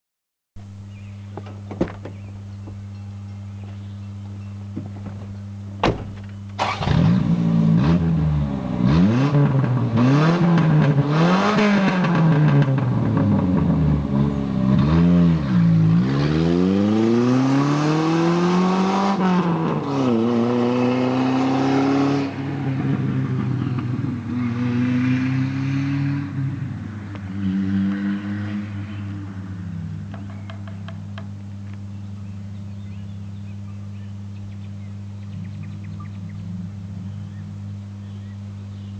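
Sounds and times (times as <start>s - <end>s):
car engine revving: 5.8s - 33.5s, 34.4s - 38.2s.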